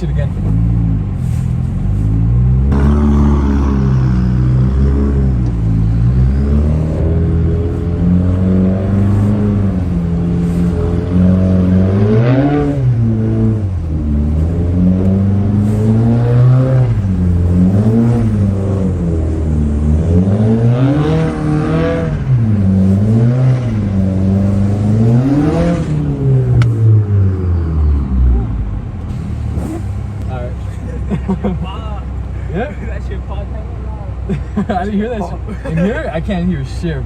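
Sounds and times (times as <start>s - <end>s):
car engine revving: 0.0s - 34.4s.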